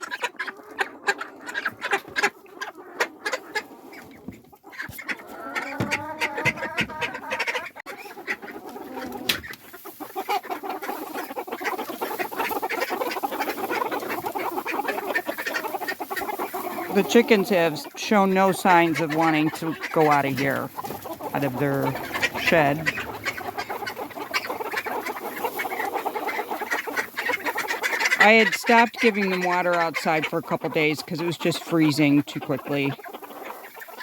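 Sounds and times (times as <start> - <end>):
chickens clucking: 0.0 - 34.0
ducks quacking: 0.0 - 34.0.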